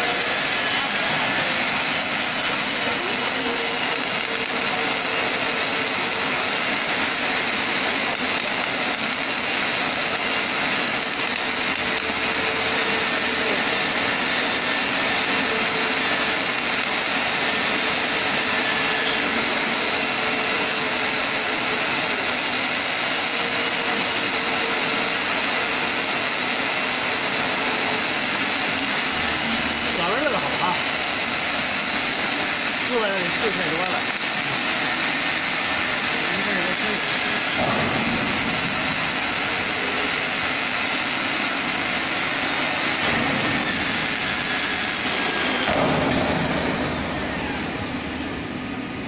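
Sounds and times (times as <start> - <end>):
welding torches hissing: 0.0 - 49.0.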